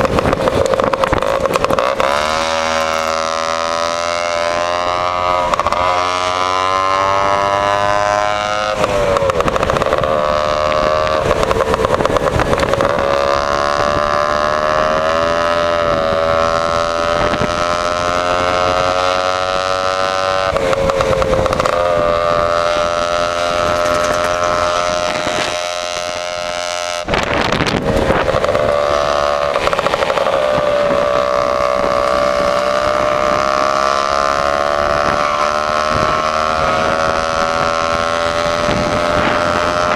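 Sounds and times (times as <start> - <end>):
scooter engine accelerating: 0.0 - 39.9.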